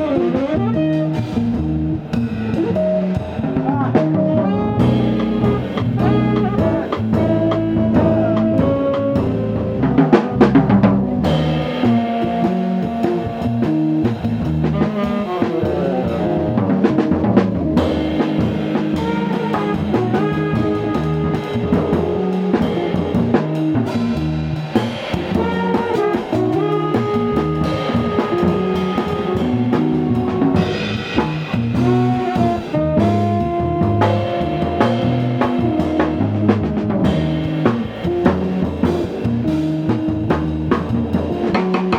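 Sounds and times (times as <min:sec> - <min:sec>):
drum kit keeping time: 0:00.0 - 0:41.9
jazz band playing: 0:00.0 - 0:41.9.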